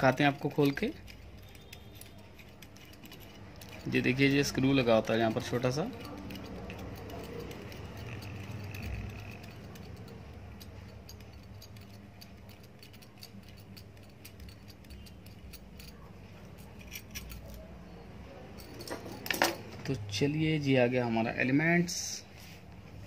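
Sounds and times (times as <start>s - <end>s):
small metal clicks and rattling: 0.0s - 17.7s, 18.5s - 20.0s
metal clinks: 0.0s - 20.0s.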